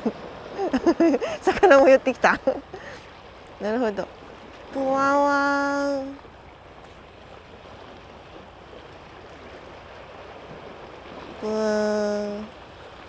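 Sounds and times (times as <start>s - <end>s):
sea waves washing on rocks: 0.0s - 13.0s.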